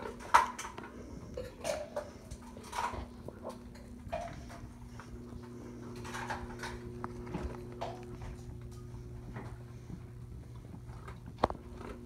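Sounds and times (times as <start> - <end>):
dog chewing food: 0.0 - 12.0
faint steady hum: 0.0 - 12.0.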